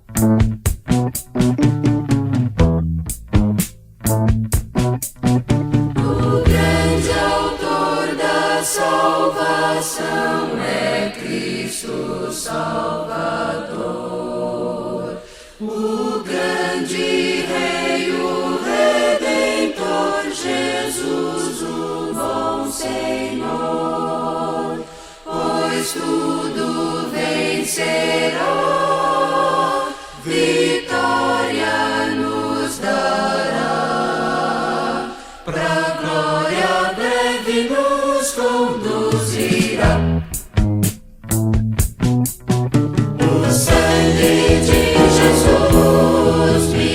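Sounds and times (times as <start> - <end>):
vocal group singing a hymn: 6.0 - 40.4, 43.2 - 46.9.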